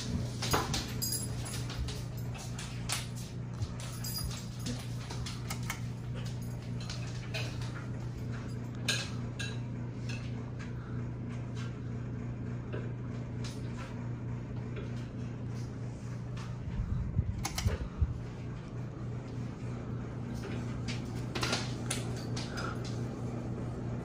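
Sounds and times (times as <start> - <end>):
ceiling fan motor humming: 0.0 - 24.0.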